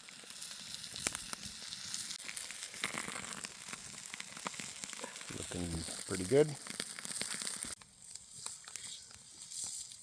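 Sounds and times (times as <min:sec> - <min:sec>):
food sizzling in a pan: 0:00.0 - 0:10.0
sharp pops and crackles: 0:00.0 - 0:10.0.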